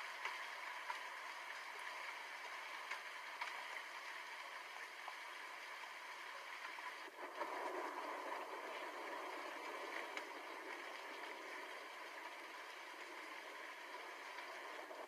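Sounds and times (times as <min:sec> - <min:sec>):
rain drop ticks: 0:00.0 - 0:15.0
steady rain falling: 0:00.0 - 0:15.0.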